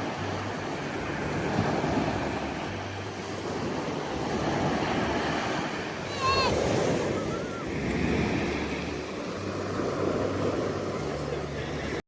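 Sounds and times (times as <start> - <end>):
waves rushing: 0.0 - 12.0
wind on microphone: 0.0 - 12.0.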